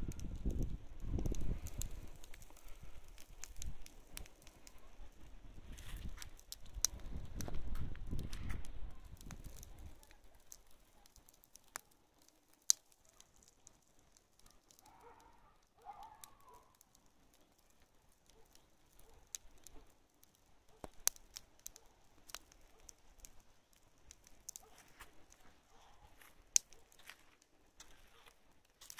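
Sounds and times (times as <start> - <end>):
hay burning and crackling: 0.0 - 28.9
sharp pops and snaps: 0.0 - 28.9.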